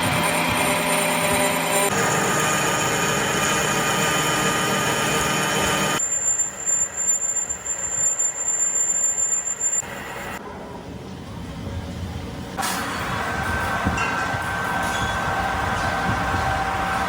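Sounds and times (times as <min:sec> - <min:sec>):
workshop machinery running: 0:00.0 - 0:10.4, 0:11.0 - 0:17.0
high steady whine: 0:00.0 - 0:17.0.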